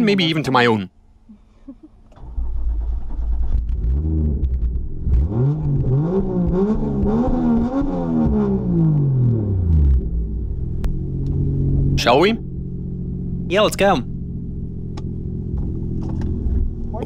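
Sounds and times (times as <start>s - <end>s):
car engine idling and revving: 1.8s - 17.0s.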